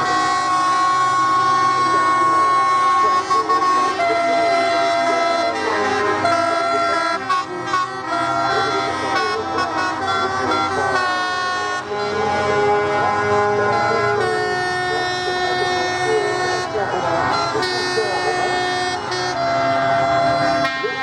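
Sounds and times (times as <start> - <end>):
truck air horns: 0.0 - 21.0.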